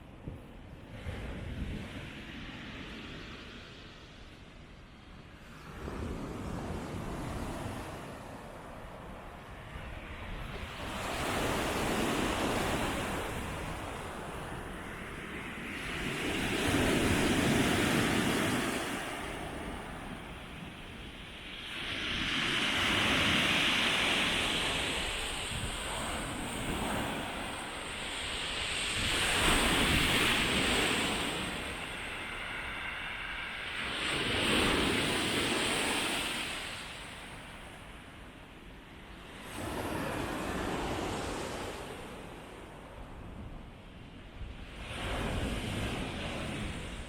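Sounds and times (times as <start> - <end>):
waves breaking on beach: 5.3 - 47.0.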